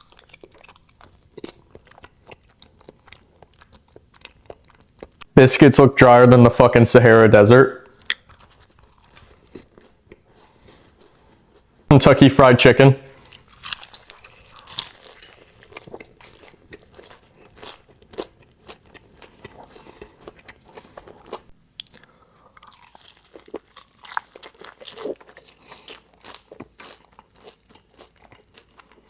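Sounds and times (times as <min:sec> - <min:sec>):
chewing: 0:00.0 - 0:05.3, 0:07.9 - 0:11.7, 0:13.1 - 0:29.0
crunching bites of fried chicken: 0:00.0 - 0:05.3, 0:07.9 - 0:11.2, 0:13.1 - 0:29.0.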